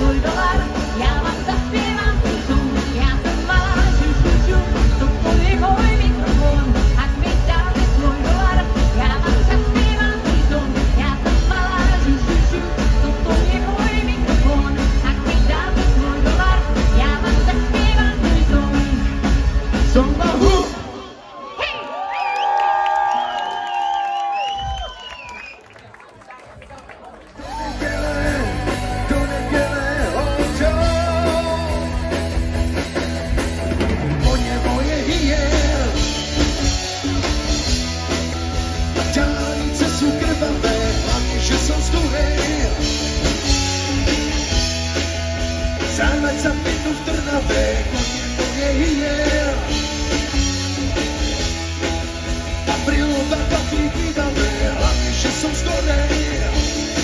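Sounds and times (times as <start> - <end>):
bass guitar: 0.0 - 21.0, 27.3 - 57.0
electric guitars: 0.0 - 21.1, 27.3 - 57.0
rock band playing: 0.0 - 21.3, 27.3 - 57.0
drums: 0.0 - 57.0.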